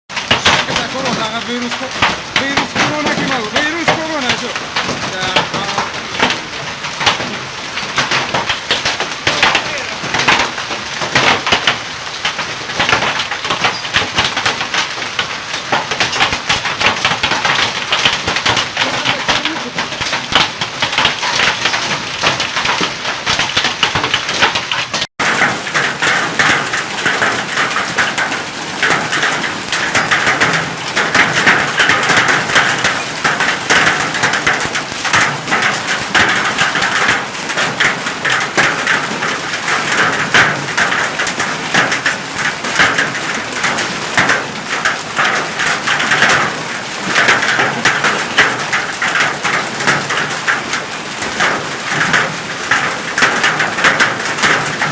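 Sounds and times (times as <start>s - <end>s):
hailstones pelting down: 0.1s - 54.9s.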